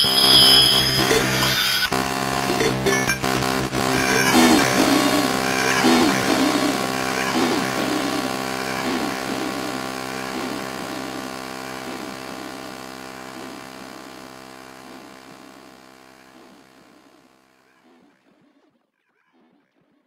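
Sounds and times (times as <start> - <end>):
droning chord with soft pulses: 0.0 - 18.3.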